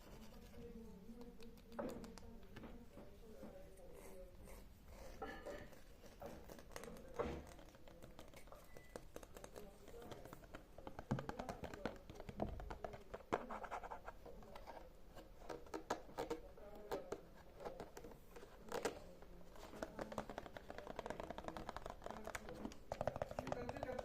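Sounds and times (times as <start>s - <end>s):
light tapping and scratching: 0.0s - 24.0s.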